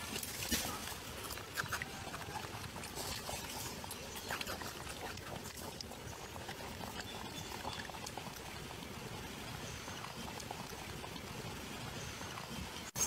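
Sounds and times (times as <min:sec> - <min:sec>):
infant monkeys suckling: 0:00.0 - 0:13.0.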